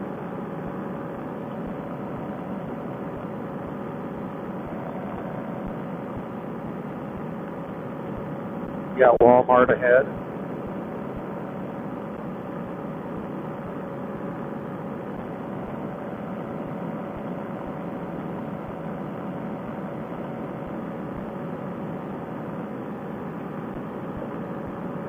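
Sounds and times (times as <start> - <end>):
paramotor engine droning: 0.0 - 25.0.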